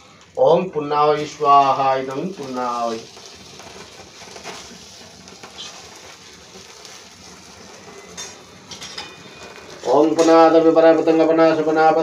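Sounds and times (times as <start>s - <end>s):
fire crackling: 0.0s - 12.0s
fire sizzling hiss: 0.0s - 12.0s.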